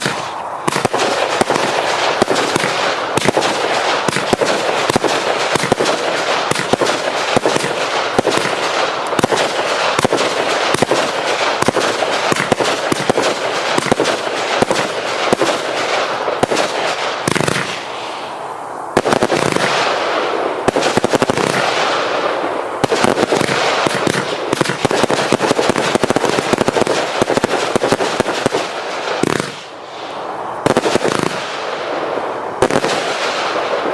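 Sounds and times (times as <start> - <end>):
firework cake firing: 0.0 - 33.9.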